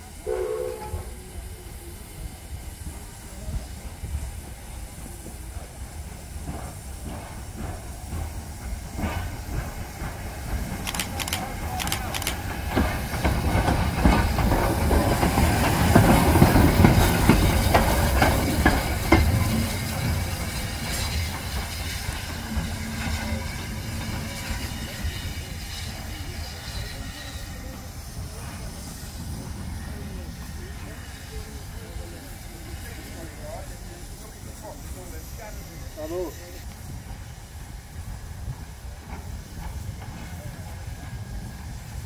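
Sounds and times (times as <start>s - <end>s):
steam locomotive hissing and running: 0.0s - 42.0s.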